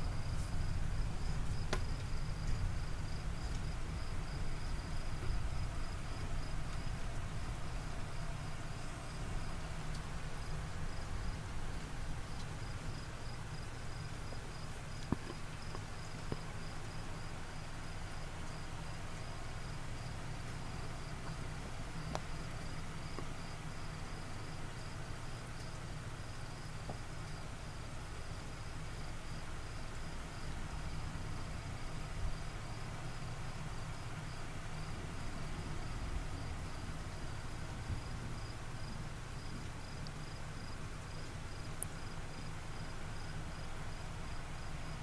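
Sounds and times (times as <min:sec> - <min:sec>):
crickets chirping: 0:00.0 - 0:45.0
low background rumble: 0:00.0 - 0:45.0.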